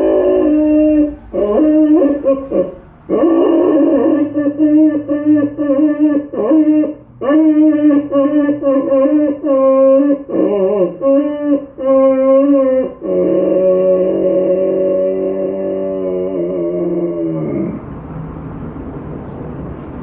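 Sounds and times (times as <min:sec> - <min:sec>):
dog howling: 0:00.0 - 0:17.8.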